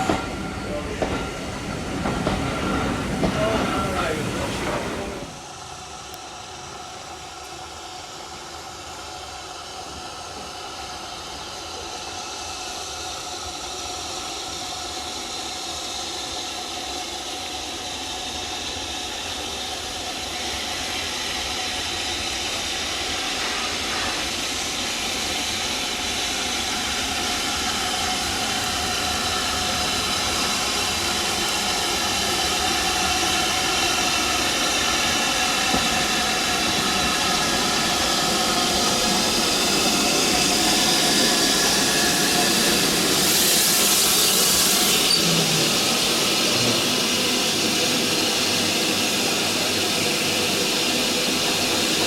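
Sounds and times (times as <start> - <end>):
steam locomotive hissing steam: 0.0 - 52.0.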